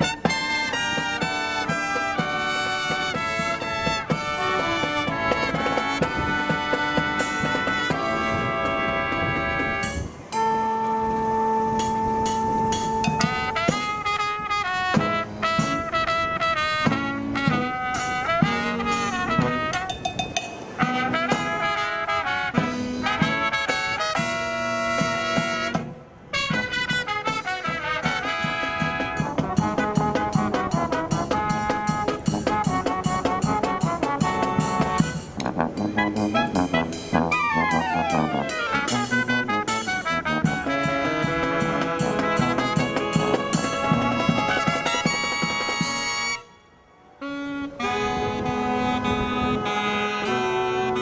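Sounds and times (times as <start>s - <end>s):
marching brass band playing: 0.0s - 51.0s.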